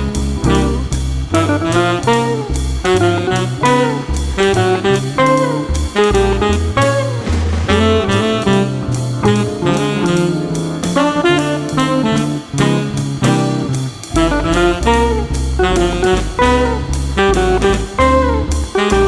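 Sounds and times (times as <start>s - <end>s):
bass line: 0.0s - 19.0s
drum kit: 0.0s - 19.0s
saxophone: 0.0s - 19.0s.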